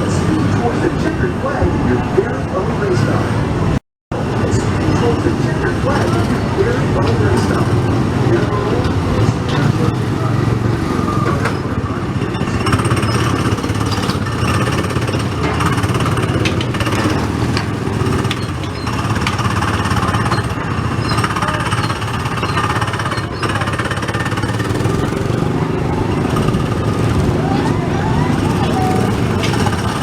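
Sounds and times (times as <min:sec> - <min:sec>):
go-kart engines buzzing: 0:00.0 - 0:30.0.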